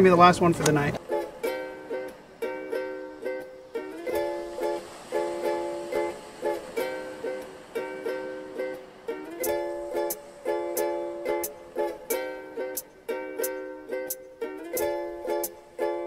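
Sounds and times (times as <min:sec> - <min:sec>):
strummed plucked-string chords: 0:00.0 - 0:16.0.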